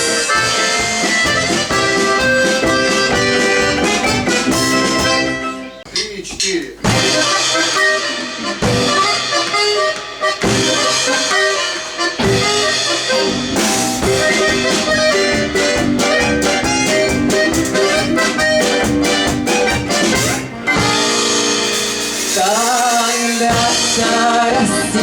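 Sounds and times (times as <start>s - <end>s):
fast percussive strikes: 0.0s - 5.4s, 6.8s - 24.6s
accordion: 0.0s - 5.9s, 6.9s - 25.0s
folk music ensemble: 0.0s - 5.9s, 6.8s - 25.0s.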